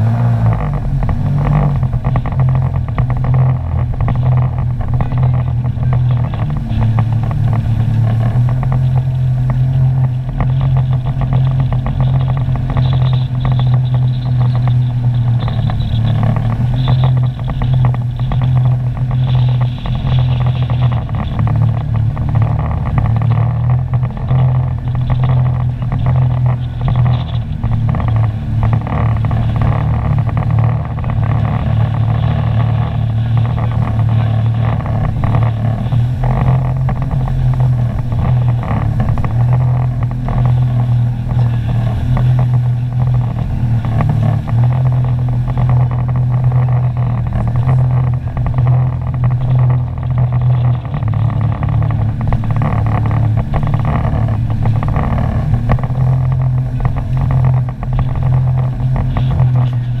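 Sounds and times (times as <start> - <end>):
watercraft engine cruising: 0.0 - 60.0.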